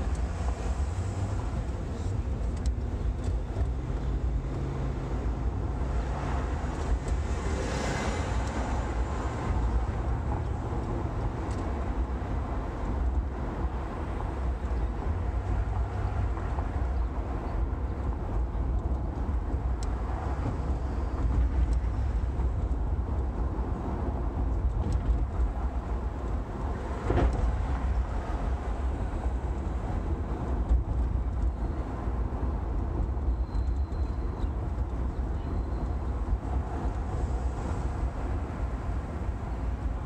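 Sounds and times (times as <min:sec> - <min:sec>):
car engine and tyres rumbling: 0:00.0 - 0:40.0.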